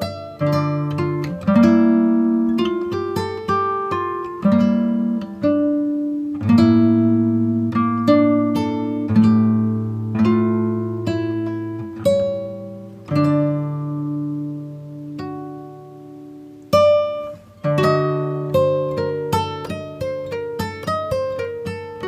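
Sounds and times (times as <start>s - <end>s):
acoustic guitar: 0.0s - 22.0s.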